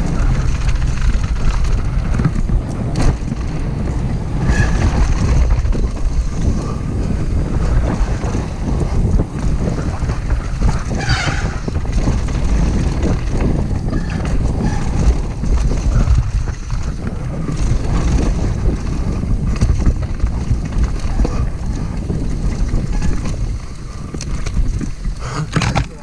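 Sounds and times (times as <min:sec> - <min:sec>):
bike rattling: 0:00.0 - 0:26.0
bike tyres rumbling on dirt: 0:00.0 - 0:26.0
wind buffeting microphone: 0:00.0 - 0:26.0.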